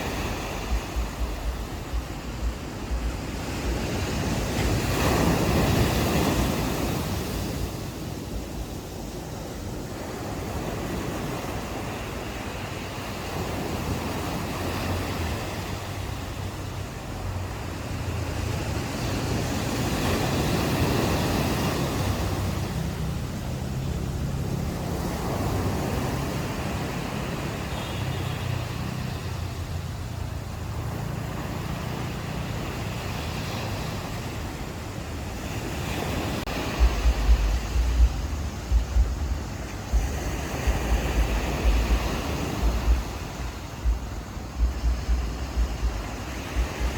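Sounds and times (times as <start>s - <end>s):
ocean surf washing on beach: 0.0s - 46.9s
wind rumbling on microphone: 0.0s - 46.9s.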